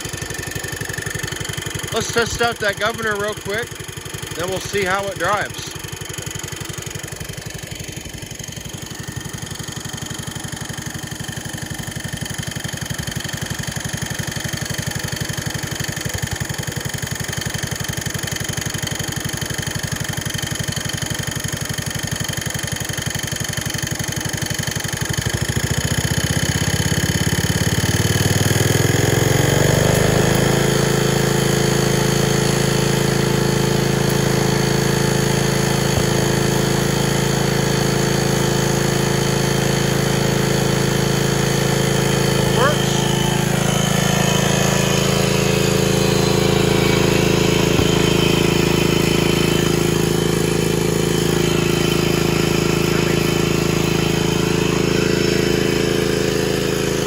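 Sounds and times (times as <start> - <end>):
small engine idling and revving: 0.0 - 57.0.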